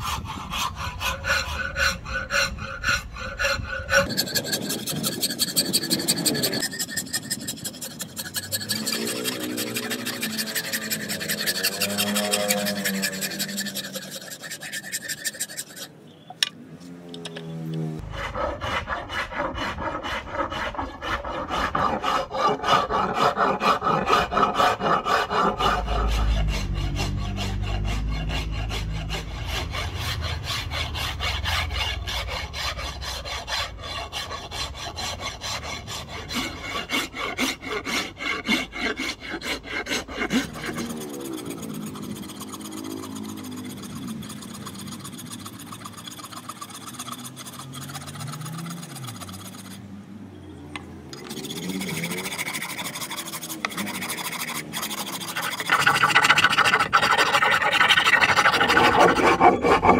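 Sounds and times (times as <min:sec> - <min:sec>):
wood rasp scraping: 0:00.0 - 0:17.0, 0:18.0 - 0:50.0, 0:51.1 - 0:59.9.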